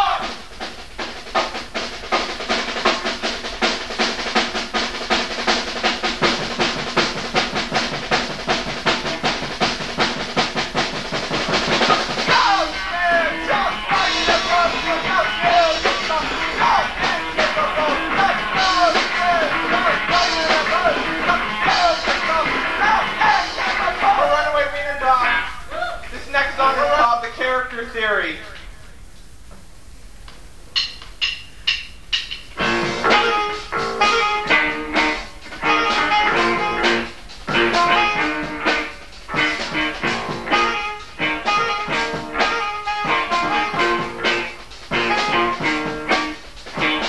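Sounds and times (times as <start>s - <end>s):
fast drumbeat: 0.0s - 25.4s, 30.7s - 47.0s
guitar: 0.0s - 28.7s, 32.5s - 47.0s
bass: 0.0s - 28.8s, 30.7s - 47.0s.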